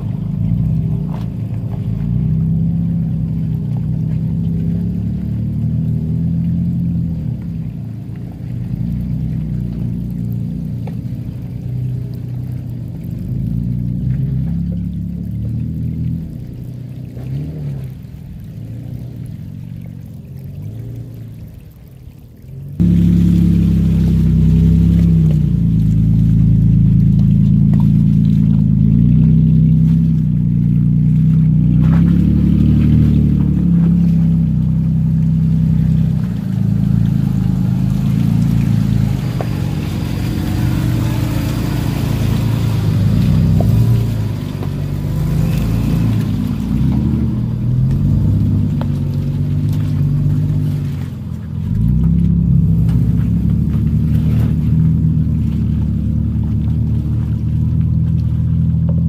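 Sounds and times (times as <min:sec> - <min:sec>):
truck engine pulling under load: 0:00.0 - 0:59.0.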